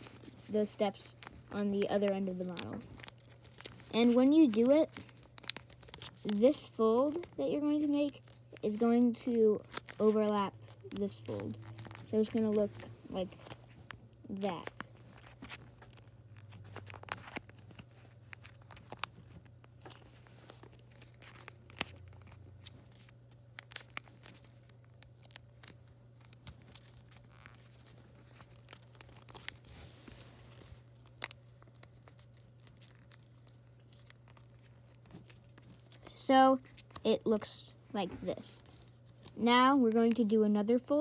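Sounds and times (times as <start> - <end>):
paper rustling: 0.0 - 37.1
stiff paper crinkling and crackling: 0.0 - 41.0.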